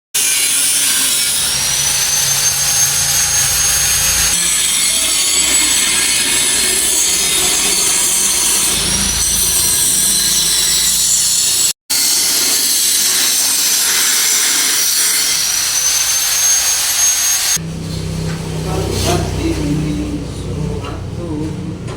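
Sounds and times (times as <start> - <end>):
power tool grinding metal: 0.2 - 20.6.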